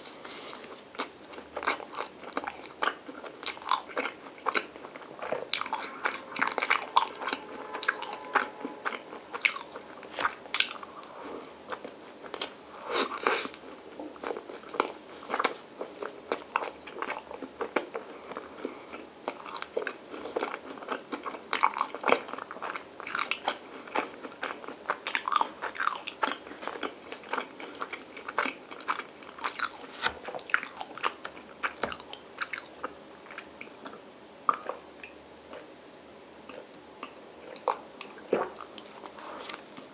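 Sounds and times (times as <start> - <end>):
person chewing bread: 0.0 - 35.7, 36.4 - 39.9.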